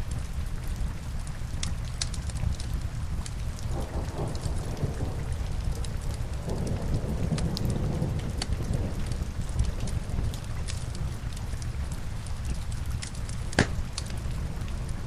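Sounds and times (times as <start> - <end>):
logs crackling in fireplace: 0.0 - 15.0
steady rain: 0.0 - 15.0.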